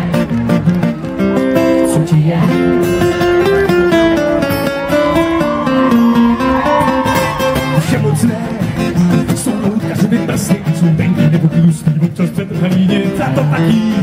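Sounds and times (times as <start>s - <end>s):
amplified acoustic guitars strumming: 0.0s - 14.0s.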